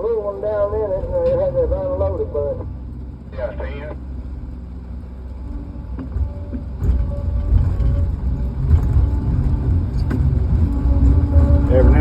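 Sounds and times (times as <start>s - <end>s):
heavy engine low rumble: 0.0s - 12.0s.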